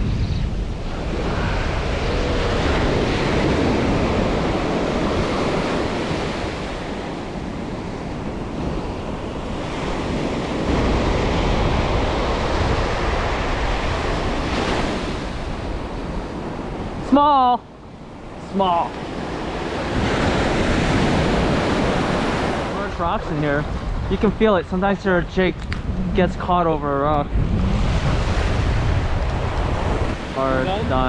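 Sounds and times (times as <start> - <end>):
surf breaking on shore: 0.0 - 31.0
wind buffeting microphone: 0.0 - 31.0.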